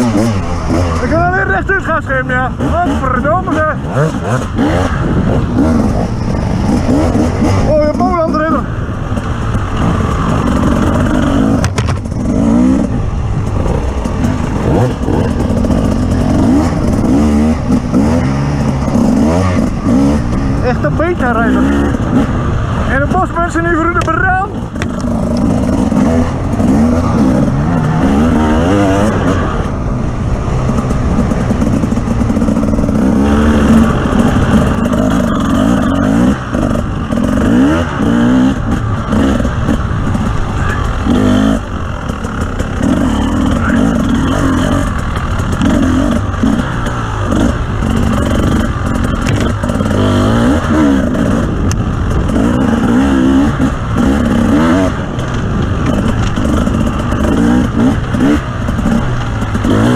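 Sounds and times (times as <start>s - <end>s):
off-road vehicle engine revving: 0.0s - 59.9s.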